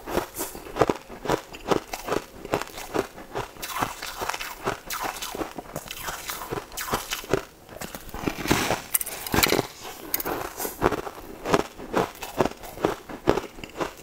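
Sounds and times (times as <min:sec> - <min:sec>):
crunchy chewing of crisp snack: 0:00.0 - 0:14.0.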